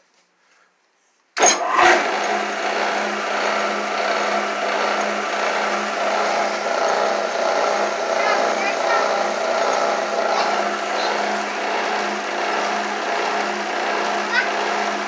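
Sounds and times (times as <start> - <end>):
electric motor running: 1.4 - 15.0.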